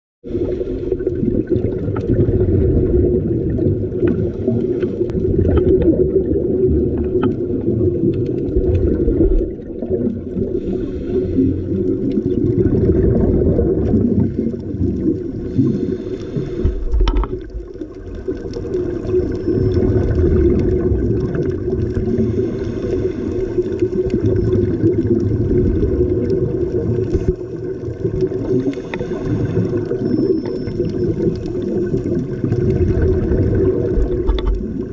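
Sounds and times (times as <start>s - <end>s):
gurgling regulator bubbles: 0.2s - 34.9s
low underwater rumble: 0.2s - 34.9s.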